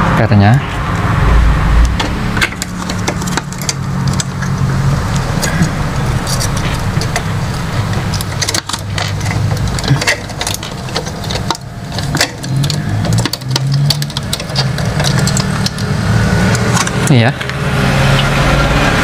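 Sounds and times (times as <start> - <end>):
road traffic rumble: 0.0 - 19.0
plastic parts clicking and rattling: 2.0 - 17.2.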